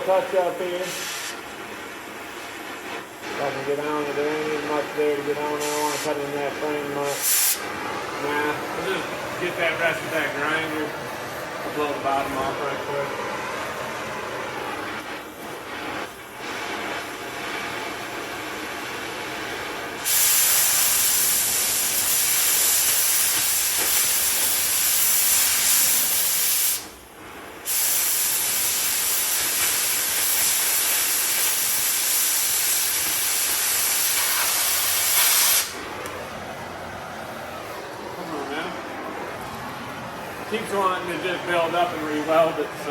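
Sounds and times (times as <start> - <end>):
cutting torch hissing: 0.0 - 42.9.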